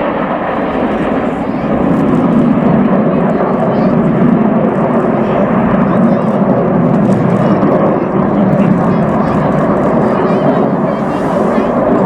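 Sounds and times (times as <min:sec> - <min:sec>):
aircraft engine overhead: 0:00.0 - 0:12.0.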